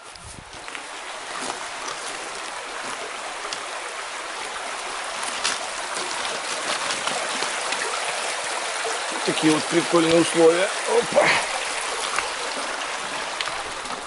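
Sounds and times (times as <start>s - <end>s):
stream babbling over stones: 0.0s - 14.0s.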